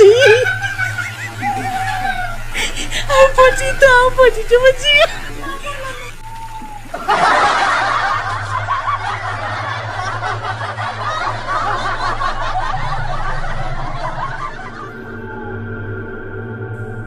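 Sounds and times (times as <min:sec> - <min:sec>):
laugh track: 0:00.0 - 0:15.5.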